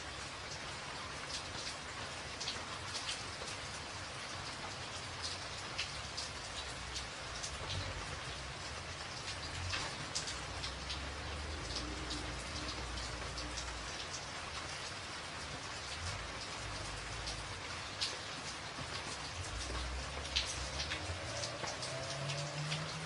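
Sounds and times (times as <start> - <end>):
rain on a tin roof: 0.0 - 23.0.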